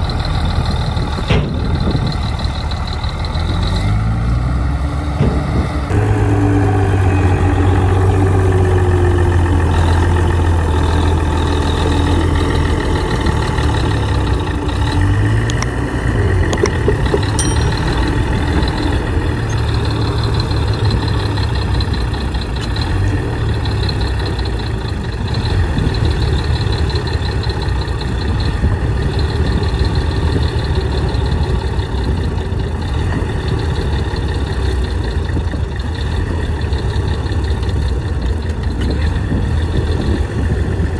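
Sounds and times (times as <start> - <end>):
heavy diesel engine drone: 0.0 - 40.9.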